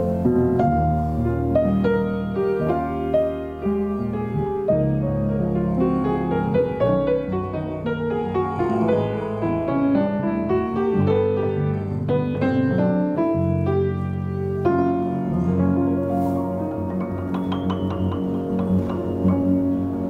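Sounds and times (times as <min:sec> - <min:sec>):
jazz piano: 0:00.0 - 0:20.0.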